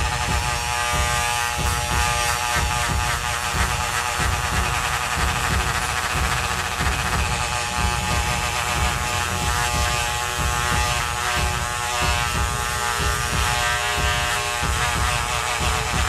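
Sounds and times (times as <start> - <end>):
rotary tool scrubbing circuit board: 0.0 - 16.0.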